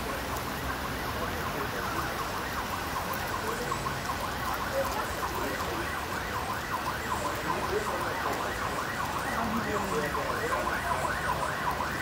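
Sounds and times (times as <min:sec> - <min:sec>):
heavy rain: 0:00.0 - 0:12.0
running floodwater: 0:00.0 - 0:12.0
siren wailing: 0:00.0 - 0:12.0.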